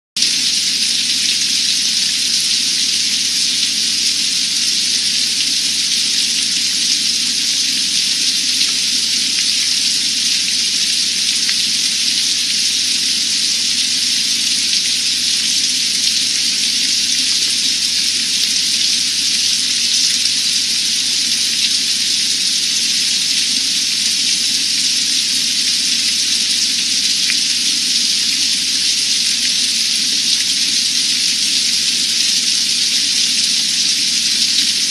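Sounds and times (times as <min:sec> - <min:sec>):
hard rain on pond and trees: 0:00.2 - 0:34.9.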